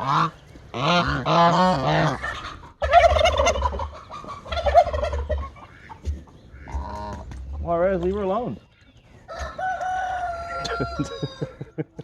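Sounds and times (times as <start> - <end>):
geese honking: 0.0 - 11.6
poultry calling: 0.0 - 11.8.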